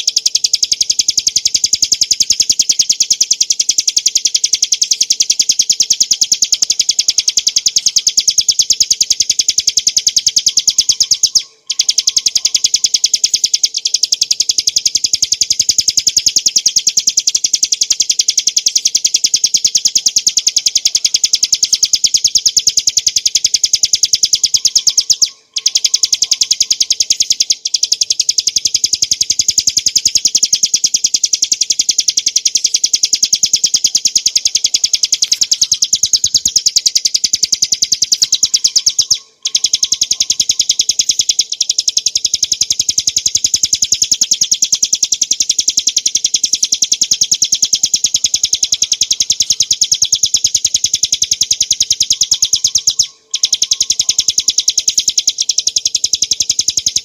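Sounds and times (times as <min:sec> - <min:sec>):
bird singing high sharp notes: 0:03.2 - 0:16.6, 0:17.2 - 0:57.0.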